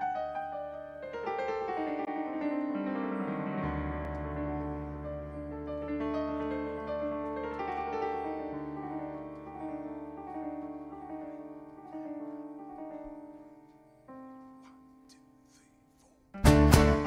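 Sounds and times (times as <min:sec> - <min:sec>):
slow piano melody: 0:00.0 - 0:15.8, 0:16.4 - 0:17.0.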